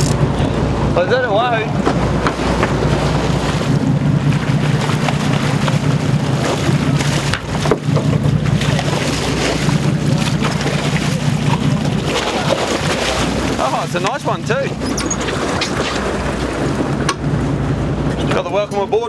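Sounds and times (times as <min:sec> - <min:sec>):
boat engine running: 0:00.0 - 0:19.0
water churning: 0:00.0 - 0:19.0
wind buffeting microphone: 0:00.0 - 0:19.0.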